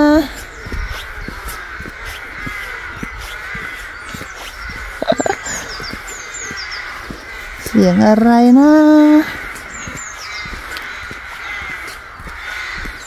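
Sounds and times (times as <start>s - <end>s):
small bird chirping: 0.0s - 11.2s
crows cawing: 0.0s - 13.0s.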